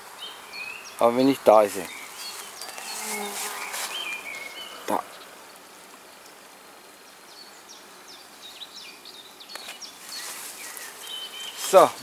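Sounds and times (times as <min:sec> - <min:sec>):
faint background hiss: 0:00.0 - 0:12.0
songbird chirping: 0:00.0 - 0:12.0.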